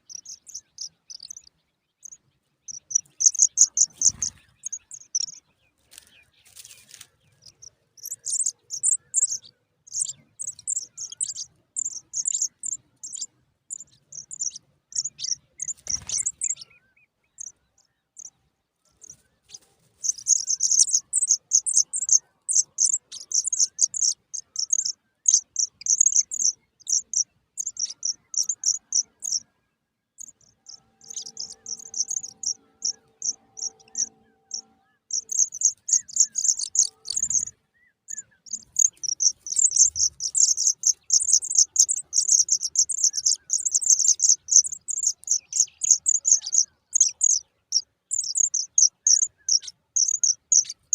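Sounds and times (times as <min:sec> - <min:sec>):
nestlings chirping: 0:00.0 - 0:16.7, 0:17.4 - 0:17.6, 0:19.0 - 0:29.5, 0:30.2 - 0:50.9.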